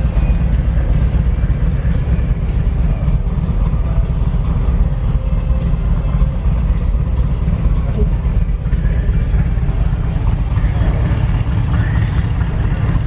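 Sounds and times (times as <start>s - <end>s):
idling vehicle engines rumble: 0.0s - 13.0s.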